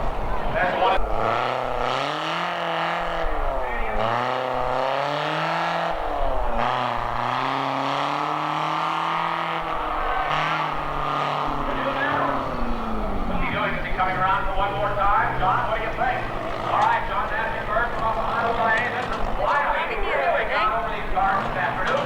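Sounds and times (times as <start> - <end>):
truck engine accelerating hard: 0.0 - 22.0.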